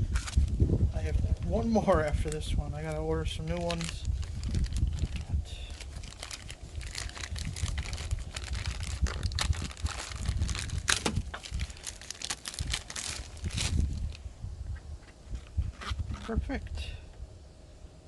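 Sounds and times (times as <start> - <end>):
air filter crinkling and rustling: 0.0 - 16.6.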